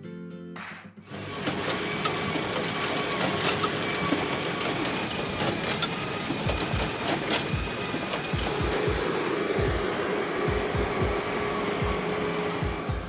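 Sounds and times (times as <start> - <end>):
baler running: 1.1 - 13.0.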